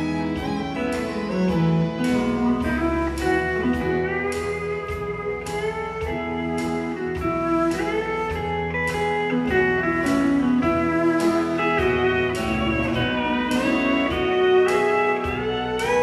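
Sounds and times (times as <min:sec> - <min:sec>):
country band playing: 0:00.0 - 0:16.0.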